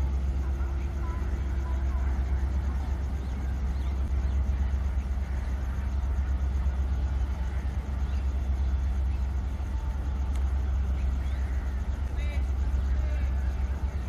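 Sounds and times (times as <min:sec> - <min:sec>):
passenger train rumbling on tracks: 0:00.0 - 0:14.0.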